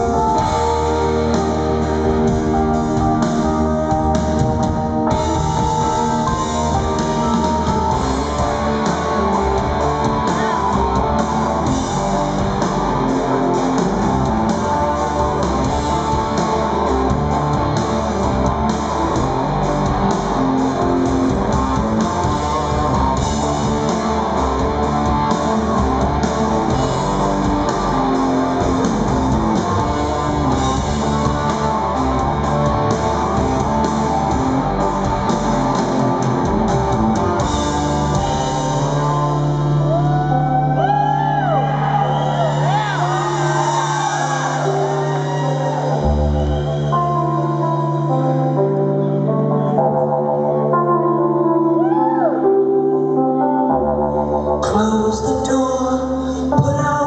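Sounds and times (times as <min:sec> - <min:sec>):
electric guitar: 0:00.0 - 0:55.6
rock band playing: 0:00.0 - 0:57.0.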